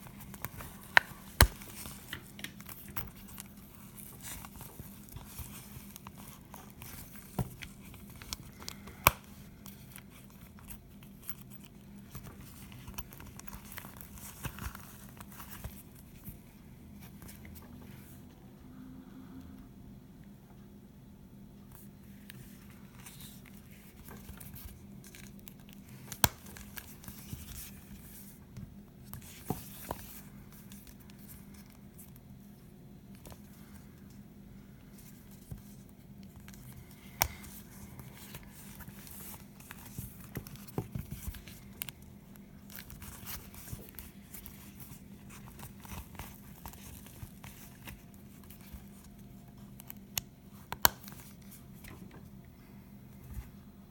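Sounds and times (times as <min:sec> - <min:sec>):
wallet rustling and scraping: 0:00.0 - 0:18.2, 0:22.1 - 0:52.1
faint low hum: 0:00.0 - 0:53.9.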